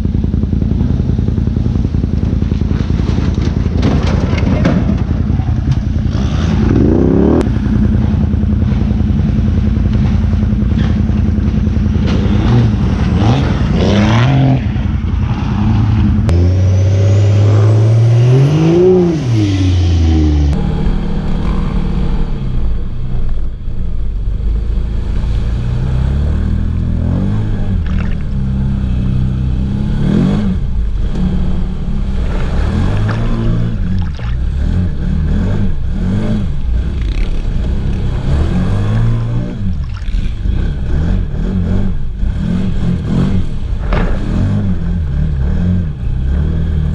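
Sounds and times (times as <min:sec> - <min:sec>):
truck engine revving hard: 0:03.2 - 0:10.0, 0:11.9 - 0:23.2, 0:25.3 - 0:46.9.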